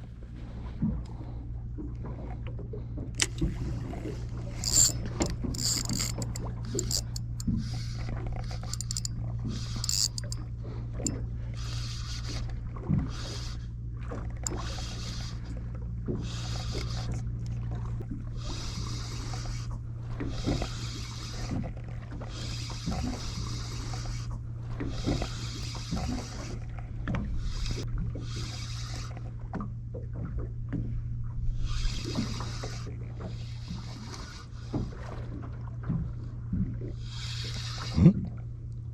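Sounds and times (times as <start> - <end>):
boat engine humming: 0.0 - 38.9
water lapping against hull: 0.0 - 38.9.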